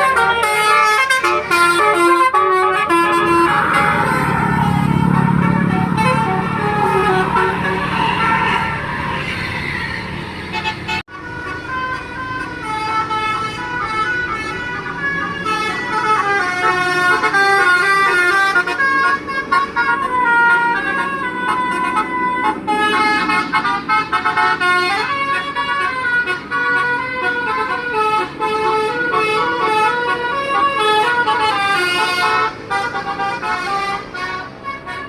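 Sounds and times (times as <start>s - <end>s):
musical air horn tune: 0.0s - 9.5s, 10.5s - 35.0s
bus engine noise: 0.0s - 35.0s.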